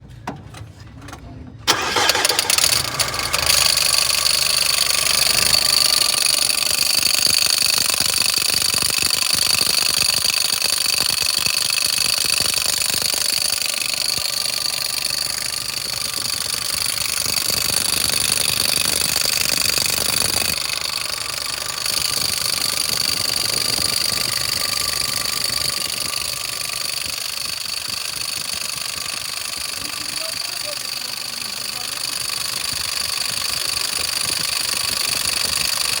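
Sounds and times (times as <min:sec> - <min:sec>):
diesel engine starting and idling: 0:01.5 - 0:36.0
high-pitched alternator whine: 0:01.8 - 0:36.0.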